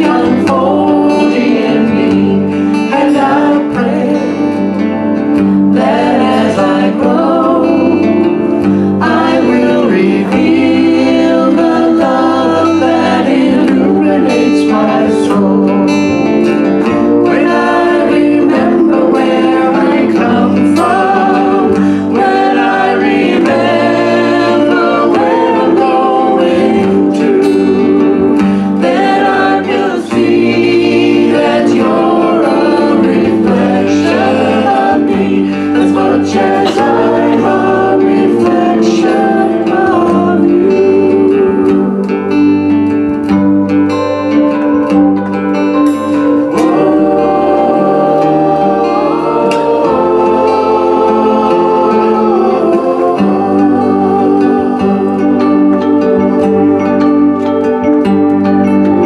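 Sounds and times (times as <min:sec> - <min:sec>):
woman singing: 0:00.0 - 0:04.8, 0:05.5 - 0:42.8, 0:46.4 - 0:57.4
acoustic guitar strumming: 0:00.0 - 0:59.0
bass: 0:00.0 - 0:59.0.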